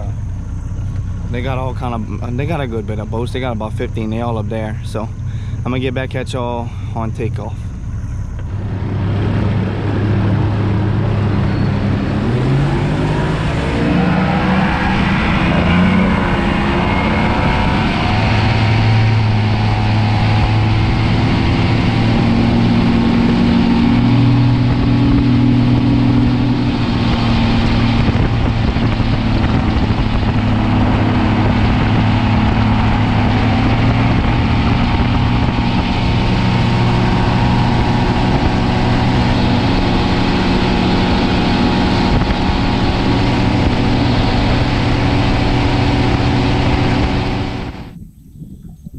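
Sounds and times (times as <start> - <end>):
outboard motor running: 0.0 - 48.0
wind: 0.0 - 48.9
rushing water: 8.6 - 48.0.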